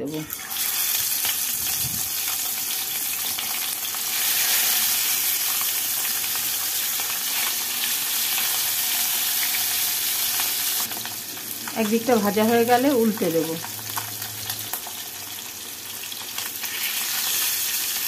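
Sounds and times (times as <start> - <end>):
fish sizzling in hot oil: 0.1 - 18.0.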